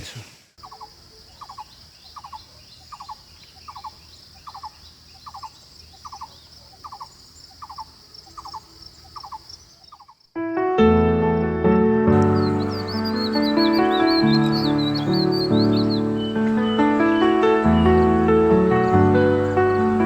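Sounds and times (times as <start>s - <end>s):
bird calling: 0.0s - 10.2s, 12.2s - 20.0s
high insect drone: 0.6s - 10.3s, 12.2s - 20.0s.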